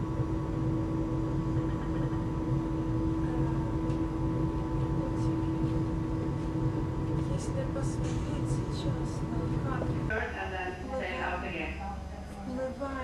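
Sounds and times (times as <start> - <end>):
ship machinery hum: 0.0 - 13.0.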